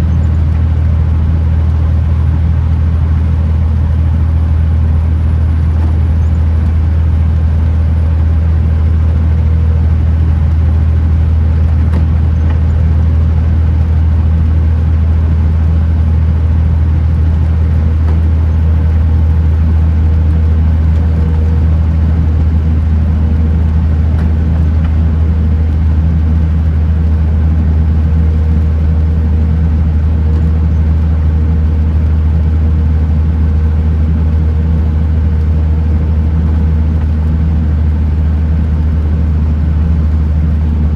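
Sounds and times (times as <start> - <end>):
road noise: 0.0 - 40.9
truck diesel engine drone: 0.0 - 40.9.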